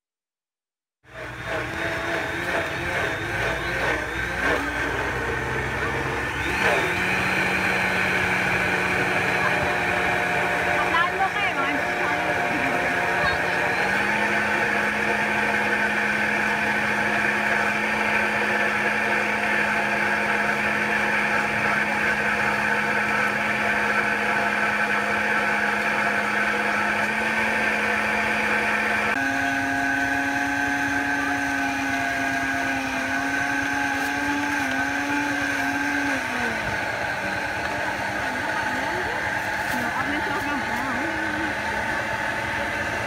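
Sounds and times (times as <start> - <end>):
blenders whirring: 1.0 - 43.0.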